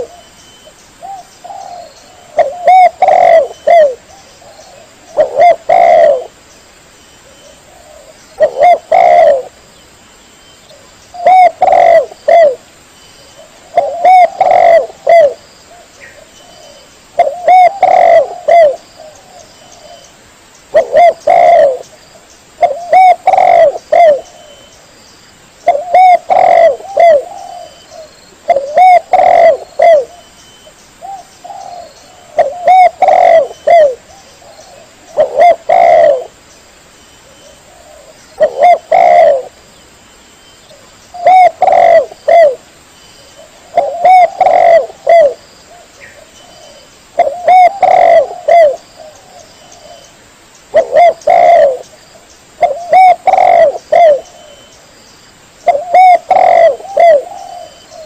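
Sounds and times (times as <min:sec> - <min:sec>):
dove cooing: 0:00.0 - 0:00.3, 0:01.0 - 0:06.4, 0:07.2 - 0:09.6, 0:10.7 - 0:12.6, 0:13.3 - 0:20.1, 0:20.7 - 0:21.9, 0:22.6 - 0:24.7, 0:25.6 - 0:30.3, 0:31.0 - 0:36.4, 0:37.2 - 0:39.6, 0:40.7 - 0:50.1, 0:50.7 - 0:52.0, 0:52.6 - 0:54.7, 0:55.6 - 0:58.0.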